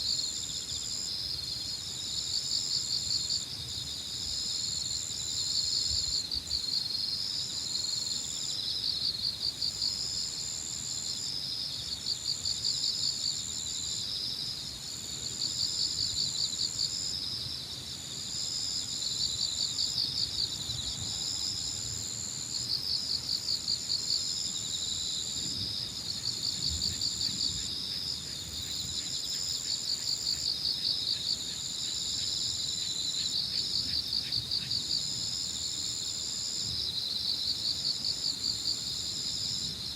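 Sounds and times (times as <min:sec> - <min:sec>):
crickets pulsing chirping: 0:00.0 - 0:39.9
insects trilling: 0:00.0 - 0:39.9.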